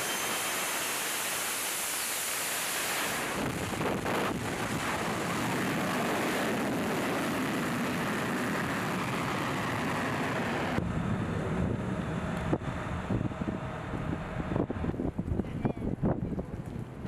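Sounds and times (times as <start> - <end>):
jet engine roaring: 0.0 - 15.4
wind noise on microphone: 3.0 - 17.0.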